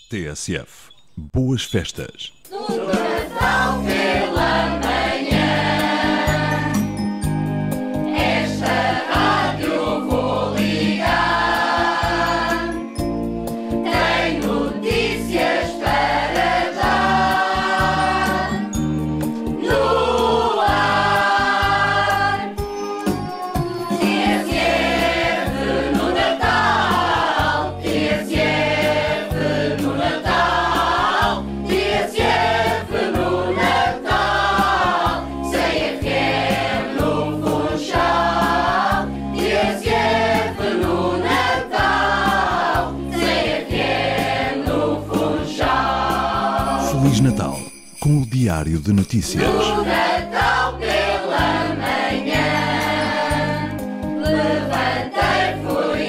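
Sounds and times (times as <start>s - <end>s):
choir singing: 2.5s - 6.9s, 8.0s - 13.0s, 13.8s - 18.7s, 19.6s - 22.6s, 23.9s - 47.2s, 49.3s - 56.0s.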